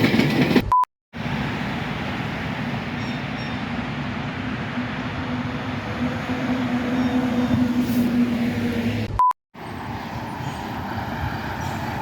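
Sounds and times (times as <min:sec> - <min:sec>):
train rumbling by: 0:00.0 - 0:00.6, 0:01.2 - 0:12.0.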